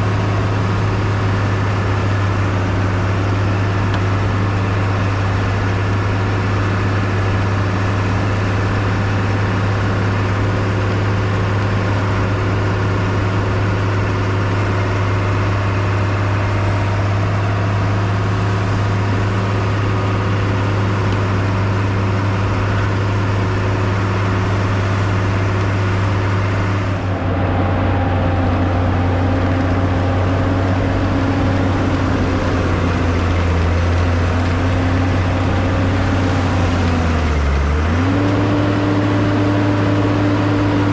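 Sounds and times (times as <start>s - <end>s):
snowcat engine running under load: 0.0s - 40.9s.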